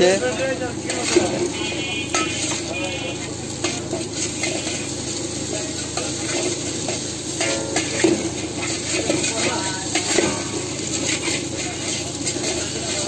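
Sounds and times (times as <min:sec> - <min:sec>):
eggs sizzling in hot oil: 0:00.0 - 0:13.0
metal spatula scraping a wok: 0:00.1 - 0:13.0.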